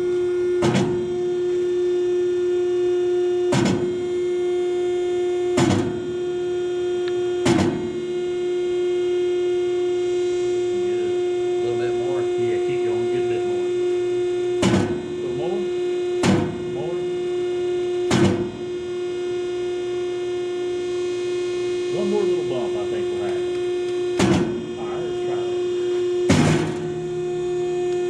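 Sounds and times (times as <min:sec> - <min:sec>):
hydraulic machine humming: 0:00.0 - 0:28.0.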